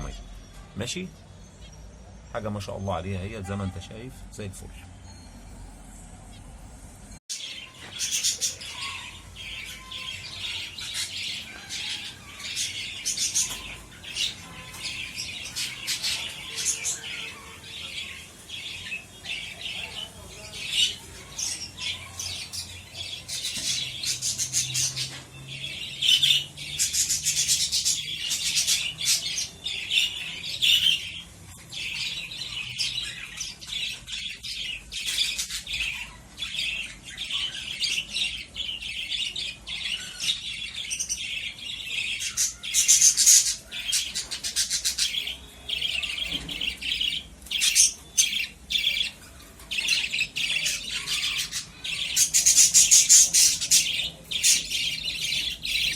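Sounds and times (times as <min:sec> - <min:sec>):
lovebirds chirping and squawking: 0:00.0 - 0:55.9.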